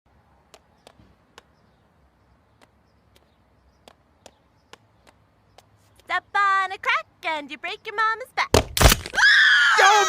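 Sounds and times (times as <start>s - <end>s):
footsteps on sidewalk: 0.1s - 8.2s.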